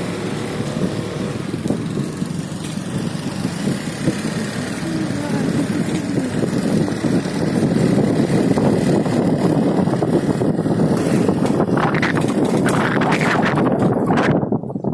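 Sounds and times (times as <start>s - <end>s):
motorcycle engine: 0.0s - 14.8s
wind rushing over microphone: 0.0s - 14.9s.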